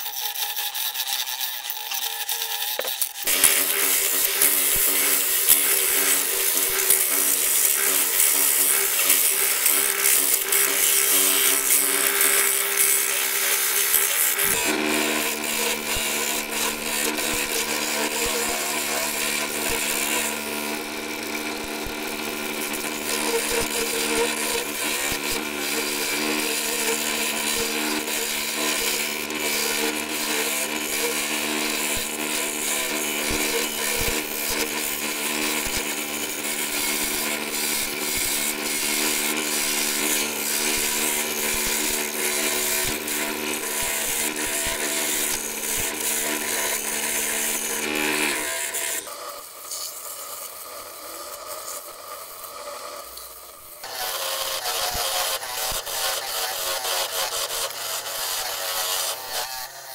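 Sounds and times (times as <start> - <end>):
gouge scraping spinning wood: 0.0 - 59.9
wood lathe motor hum: 0.0 - 59.9.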